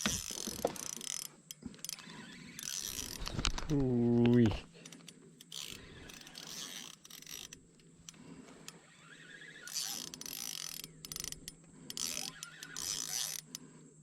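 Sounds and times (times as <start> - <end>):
fishing reel gears ticking: 0.0 - 3.4, 4.3 - 13.7.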